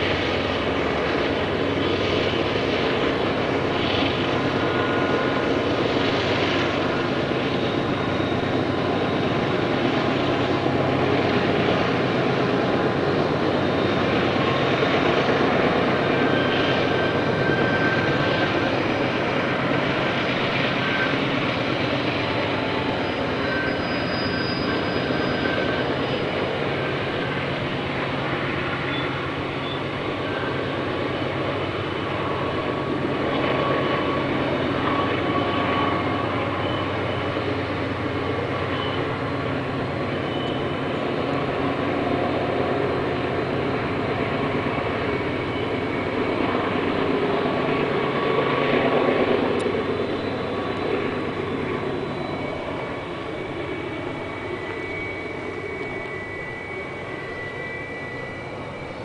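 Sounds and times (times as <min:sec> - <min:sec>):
diesel locomotive engine drone: 0:00.0 - 0:59.0
faint high squeals: 0:00.0 - 0:59.0.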